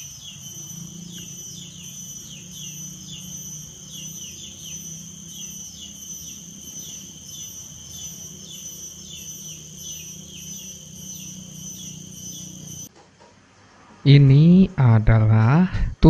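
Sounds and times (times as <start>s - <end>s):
insect high trill: 0.0s - 12.9s
low hum: 0.0s - 12.9s
short falling insect chirps: 0.0s - 12.9s.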